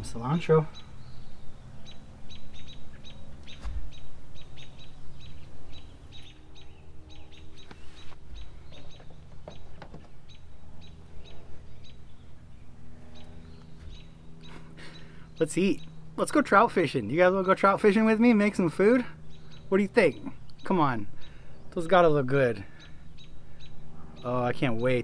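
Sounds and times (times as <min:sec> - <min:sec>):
bird chirping: 0:00.0 - 0:25.0.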